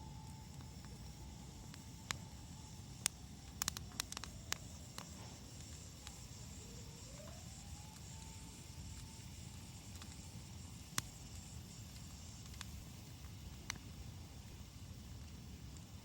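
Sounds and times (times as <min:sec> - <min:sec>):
fire popping: 0:00.0 - 0:16.0
low steady rumble: 0:00.0 - 0:16.0
twig fire crackling: 0:00.0 - 0:16.0.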